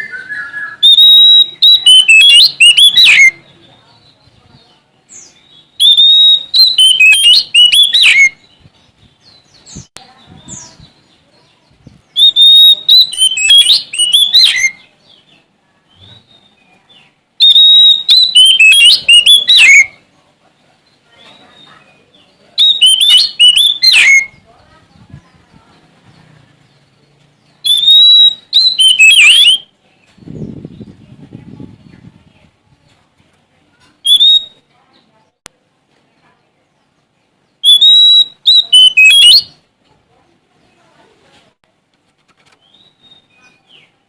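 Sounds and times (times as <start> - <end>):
songbird singing: 0.0 - 41.2, 41.8 - 44.0.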